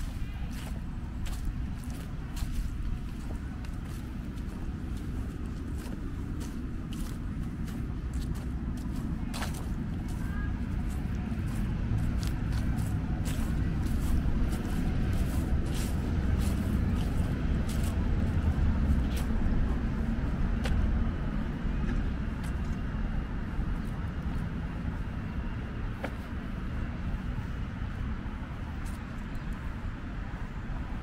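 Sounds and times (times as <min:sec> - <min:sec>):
vehicle passing with low rumble: 0:00.0 - 0:31.0.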